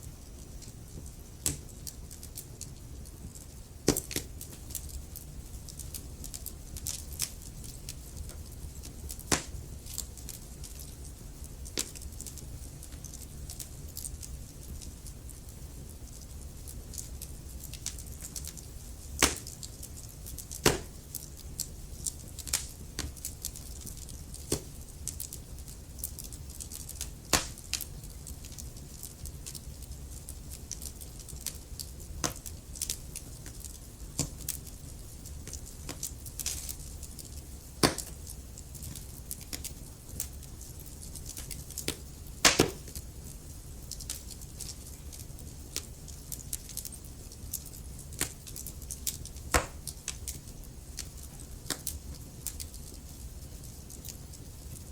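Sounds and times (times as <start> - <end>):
fire crackling and popping: 0.0 - 54.9
low rumble of fire: 0.0 - 54.9.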